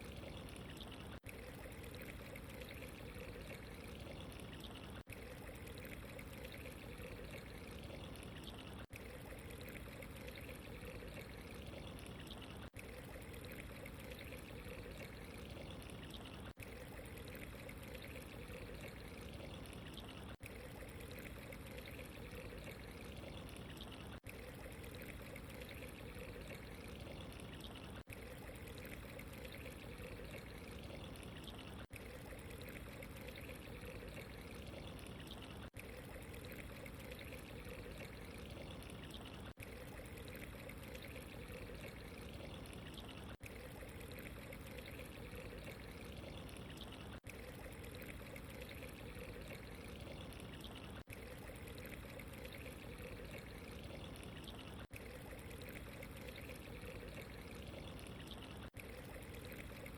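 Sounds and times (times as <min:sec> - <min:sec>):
trickling water: 0:00.0 - 0:59.9.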